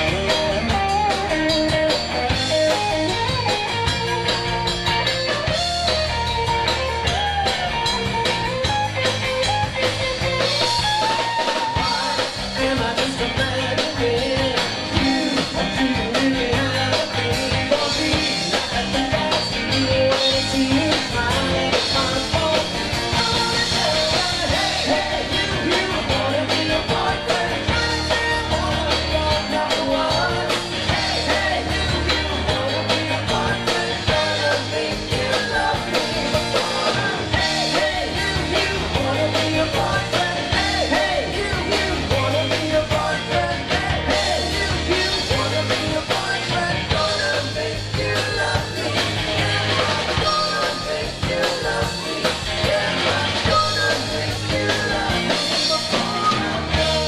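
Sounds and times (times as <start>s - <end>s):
drums beat: 0.0s - 57.0s
electric guitar: 0.0s - 57.0s
live rock band playing: 0.0s - 57.0s
person singing: 10.5s - 57.0s.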